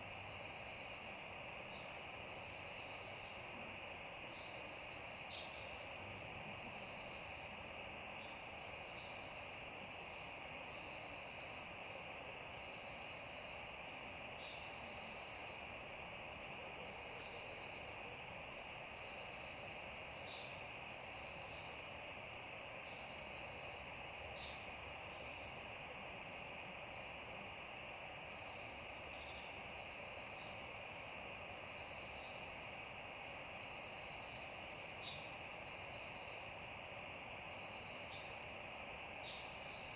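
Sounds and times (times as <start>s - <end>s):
insect chirps: 0.0s - 39.9s
insects trilling: 0.5s - 16.4s, 17.0s - 39.9s.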